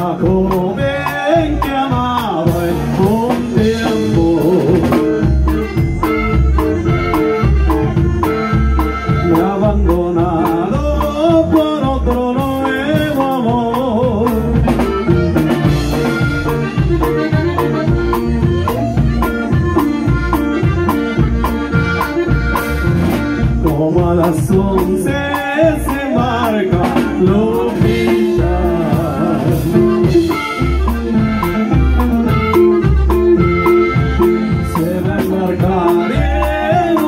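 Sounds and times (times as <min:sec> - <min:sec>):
live latin dance band: 0:00.0 - 0:37.0.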